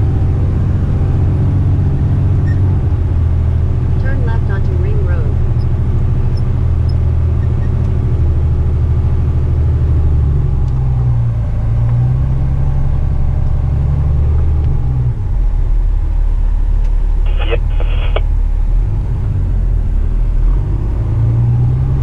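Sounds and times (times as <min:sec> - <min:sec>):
truck diesel engine running: 0:00.0 - 0:20.8.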